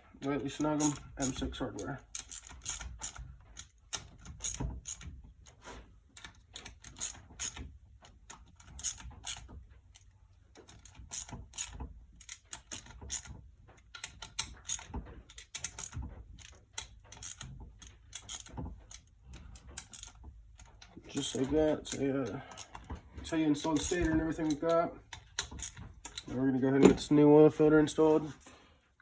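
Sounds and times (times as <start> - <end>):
hand ratchet clicking: 0.8 - 5.2, 6.1 - 26.3.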